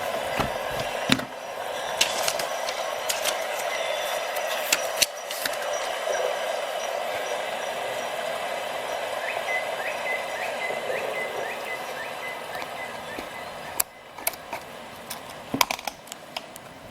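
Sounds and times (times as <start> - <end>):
background hiss: 0.0 - 16.9.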